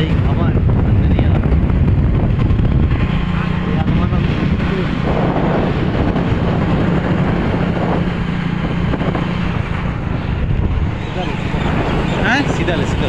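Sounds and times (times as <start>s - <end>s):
road noise: 0.0s - 13.0s
vehicle engine hum: 0.0s - 13.0s
wind buffeting microphone: 0.0s - 13.0s.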